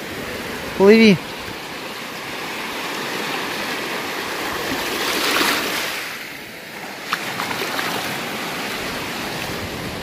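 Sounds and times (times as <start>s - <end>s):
stream water rushing and splashing: 0.0s - 10.0s.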